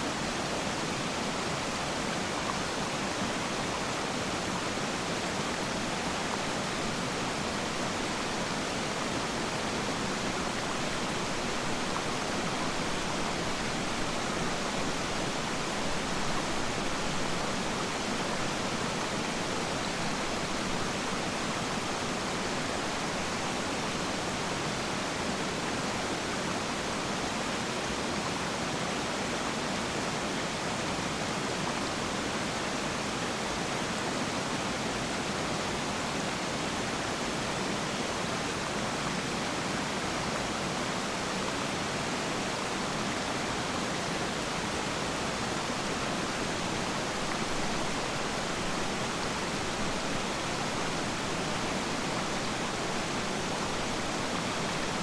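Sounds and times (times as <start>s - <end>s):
rush of falling water: 0.0s - 55.0s.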